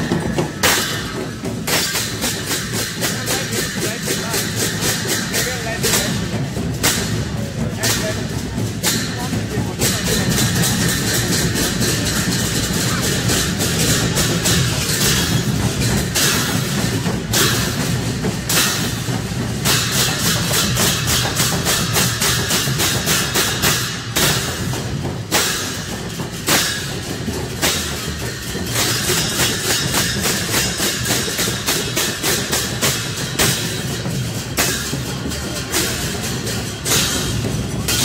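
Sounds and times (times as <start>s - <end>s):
deep barrel drumbeat: 0.0s - 38.0s
hand cymbals clashing: 0.0s - 38.0s.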